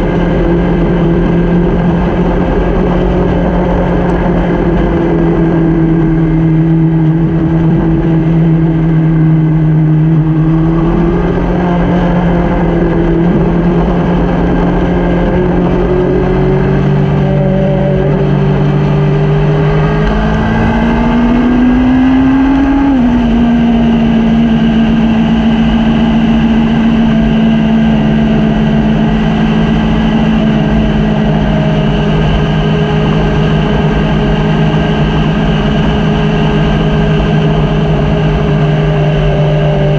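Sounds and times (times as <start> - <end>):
low rumbling haze: 0.0 - 39.9
motorcycle engine running: 0.0 - 39.9.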